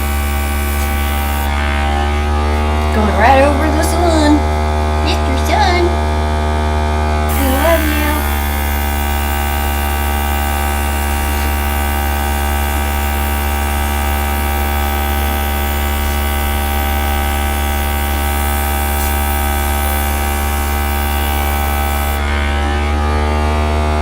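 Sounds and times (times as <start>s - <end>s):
small electric motor humming: 0.0s - 24.0s.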